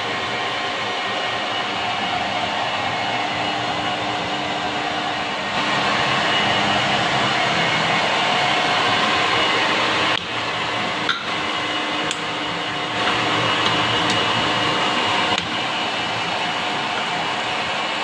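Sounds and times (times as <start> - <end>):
metal lathe humming: 0.0 - 18.0.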